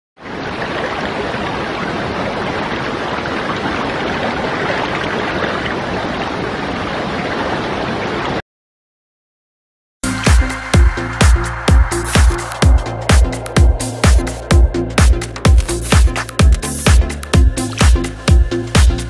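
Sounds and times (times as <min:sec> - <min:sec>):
rushing water: 0:00.2 - 0:08.4, 0:10.0 - 0:19.0.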